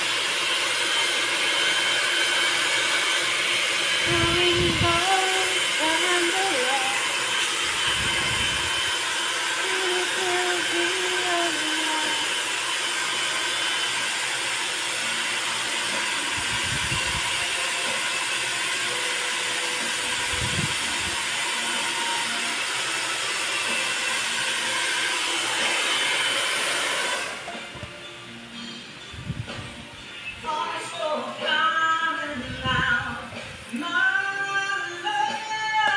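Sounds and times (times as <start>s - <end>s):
hair dryer blowing: 0.0s - 35.9s.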